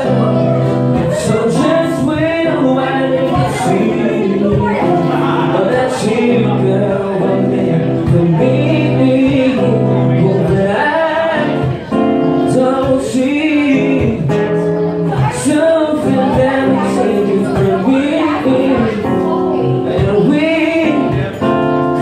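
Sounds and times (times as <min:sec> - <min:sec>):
man singing a slow ballad: 0:00.0 - 0:22.0
strummed acoustic guitar: 0:00.0 - 0:22.0.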